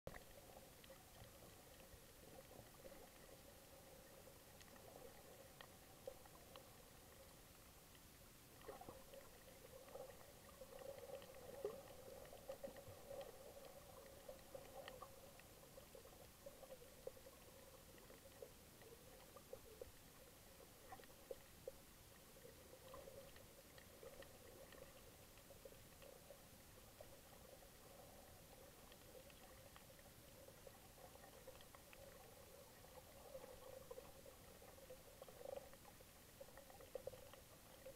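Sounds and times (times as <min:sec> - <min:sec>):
small clicks and crackles: 0:00.1 - 0:37.9.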